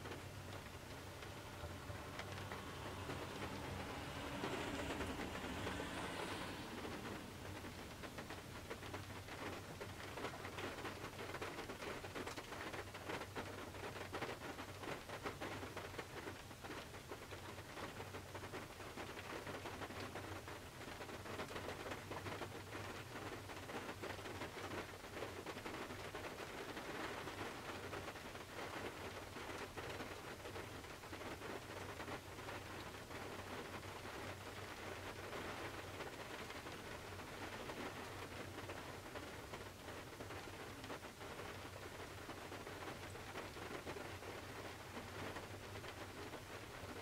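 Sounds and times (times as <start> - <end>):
rain pattering on car roof: 0.0 - 47.0.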